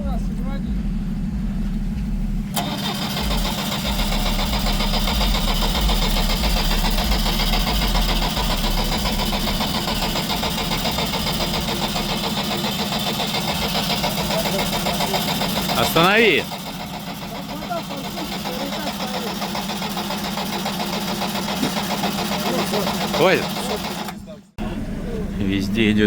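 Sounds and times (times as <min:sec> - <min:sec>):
car engine cranking: 0:00.0 - 0:26.0
engine idling: 0:00.0 - 0:26.0.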